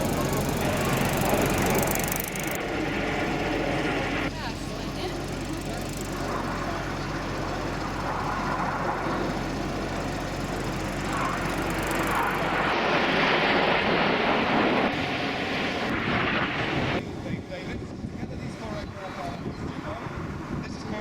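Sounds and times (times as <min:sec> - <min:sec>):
aircraft engine roar: 0:00.0 - 0:21.0.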